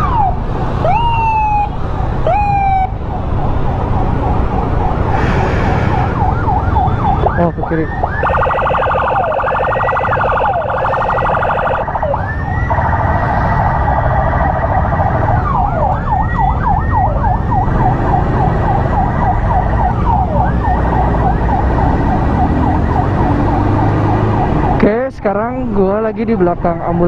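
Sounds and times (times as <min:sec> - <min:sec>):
siren whoops: 0:00.0 - 0:03.0, 0:03.8 - 0:24.9
emergency sirens wailing: 0:00.0 - 0:27.0
motorcycle engine and road noise: 0:00.0 - 0:27.0.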